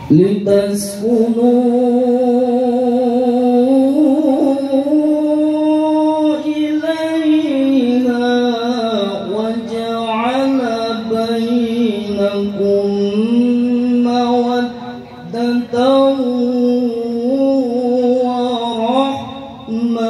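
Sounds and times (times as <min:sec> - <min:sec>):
man chanting into a microphone: 0:00.0 - 0:20.0.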